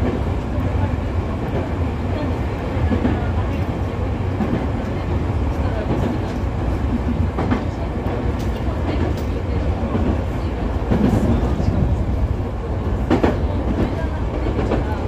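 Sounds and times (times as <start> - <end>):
clacks over rail joints: 0.0 - 12.2, 12.8 - 15.0
train wheels rumbling on rail: 0.0 - 15.0.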